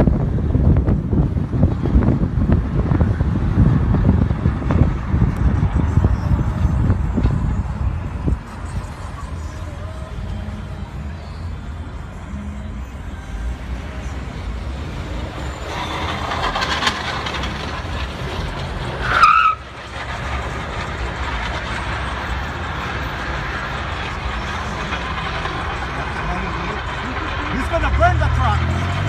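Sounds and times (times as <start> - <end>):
car driving rumble: 0.0 - 29.0
rising squeal: 4.8 - 29.0.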